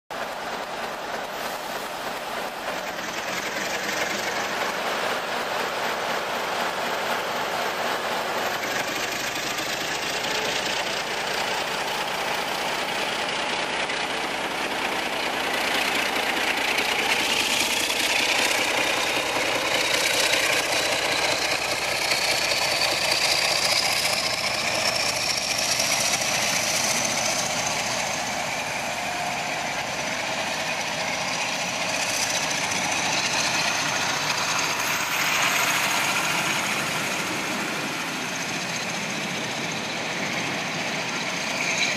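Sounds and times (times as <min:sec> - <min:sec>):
diesel locomotive engine working hard: 0:00.1 - 0:41.9
wheels rumbling over rails: 0:00.1 - 0:41.9.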